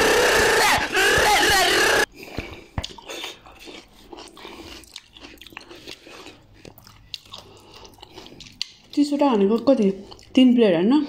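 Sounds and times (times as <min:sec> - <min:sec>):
crunchy food chewing: 0:00.0 - 0:10.4.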